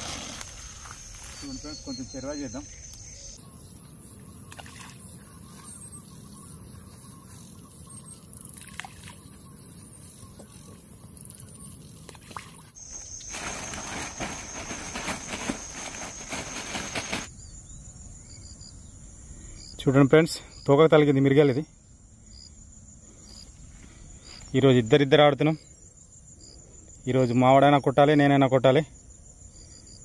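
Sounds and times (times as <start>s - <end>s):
chorus of insects and birds: 0.0s - 30.0s
high insect drone: 0.0s - 30.0s.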